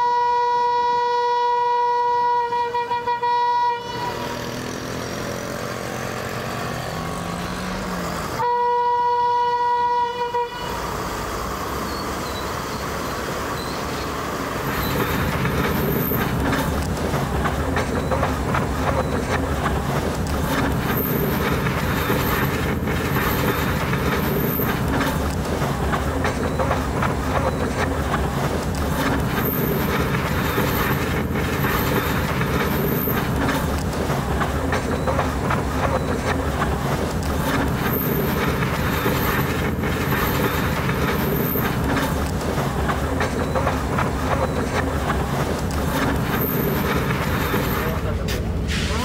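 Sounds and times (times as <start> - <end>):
train wheels on track: 0.0 - 49.0.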